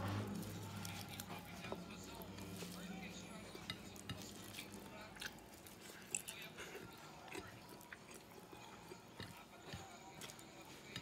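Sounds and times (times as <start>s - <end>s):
chewing and wet mouth sounds: 0.0s - 11.0s.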